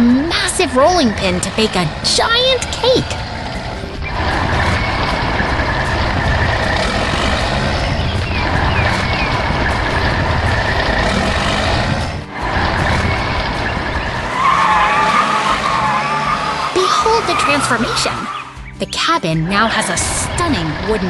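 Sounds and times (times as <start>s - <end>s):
construction machinery engines running: 0.0s - 21.0s.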